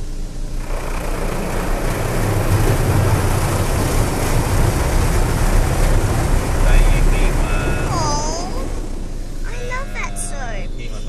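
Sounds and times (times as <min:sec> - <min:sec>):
heavy low rumble: 0:00.0 - 0:11.0
water jets spraying a car: 0:00.1 - 0:09.5.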